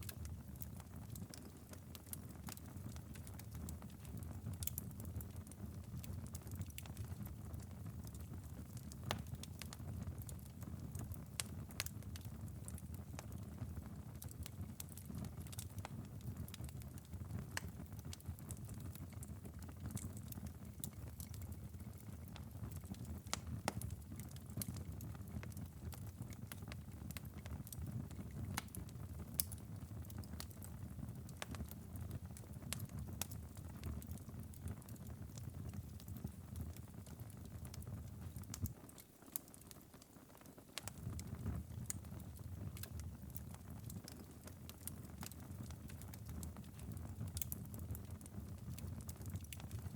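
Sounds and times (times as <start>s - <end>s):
embers crackling and popping: 0.0s - 49.9s
low rumble of burning coals: 0.0s - 49.9s.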